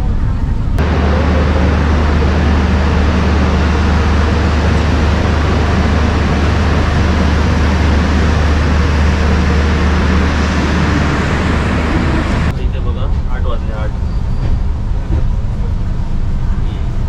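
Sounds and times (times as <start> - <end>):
train rumbling and rushing: 0.0 - 17.0.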